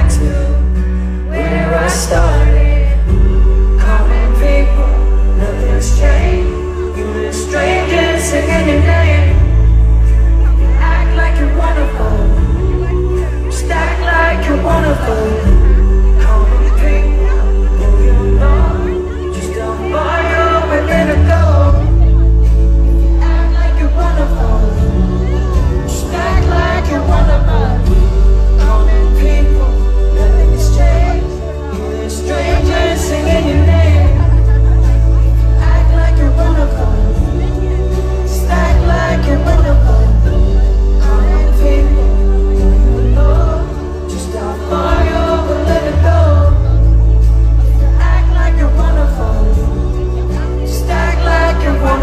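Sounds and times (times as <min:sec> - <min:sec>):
live band with singing: 0:00.0 - 0:52.0.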